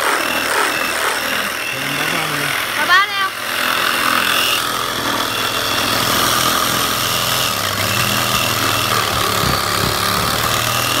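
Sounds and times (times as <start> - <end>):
reciprocating saw cutting wood: 0.0 - 11.0.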